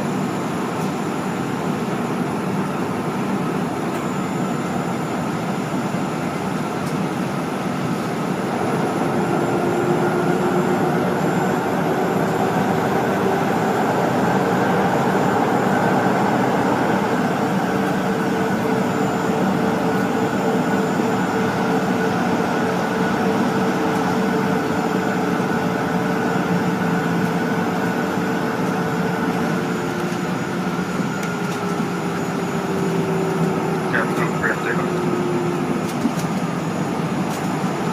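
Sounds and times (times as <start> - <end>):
jet cabin engine drone: 0.0 - 37.9.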